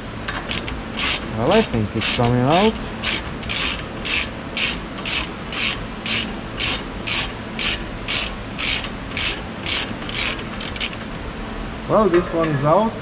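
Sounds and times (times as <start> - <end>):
ratchet wrench clicking: 0.4 - 11.0.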